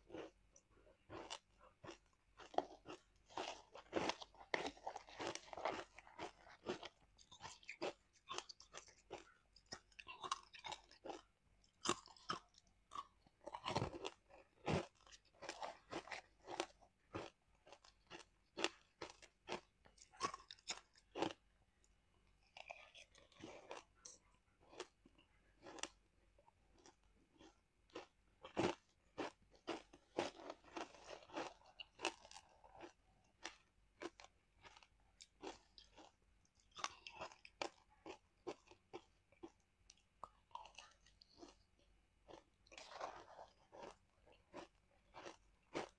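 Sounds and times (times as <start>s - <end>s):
ice being chewed: 0.0s - 45.9s.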